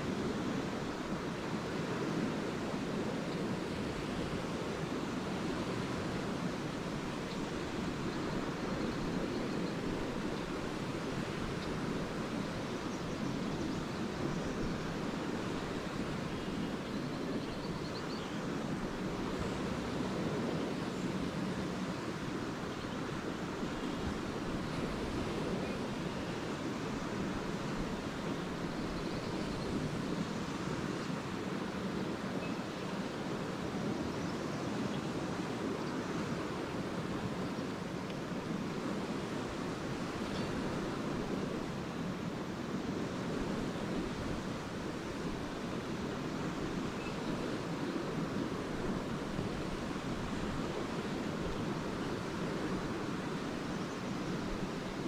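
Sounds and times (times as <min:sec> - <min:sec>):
lake waves washing onto beach: 0:00.0 - 0:55.0.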